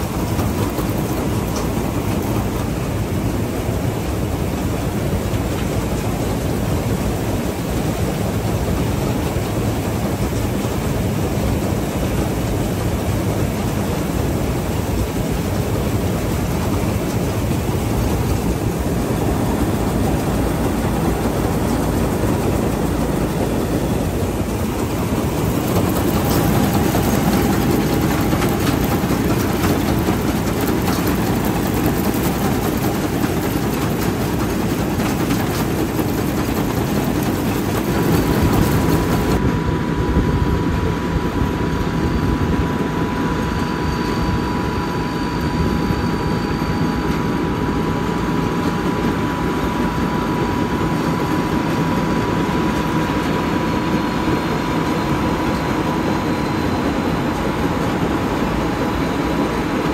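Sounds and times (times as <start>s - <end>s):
combine harvester engine running: 0.0s - 59.9s.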